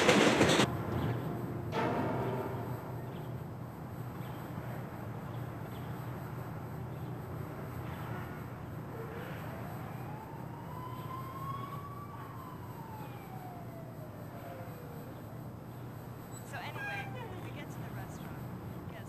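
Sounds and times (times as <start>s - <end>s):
low hum of city traffic: 0.0s - 19.0s
distant siren wailing: 0.6s - 19.0s.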